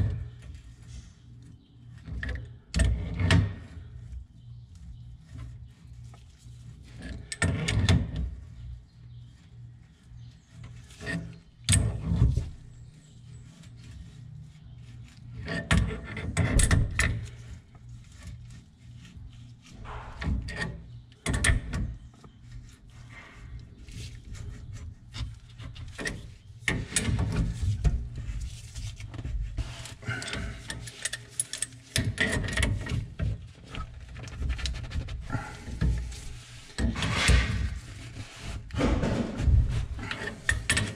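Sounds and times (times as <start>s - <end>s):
metal rubbing and grinding: 1.9s - 40.9s.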